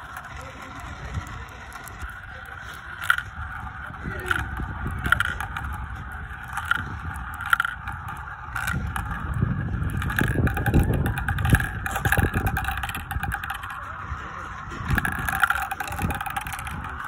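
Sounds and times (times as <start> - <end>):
marbles clicking against plastic: 0.0 - 17.0
marbles rolling on plastic: 0.0 - 17.0.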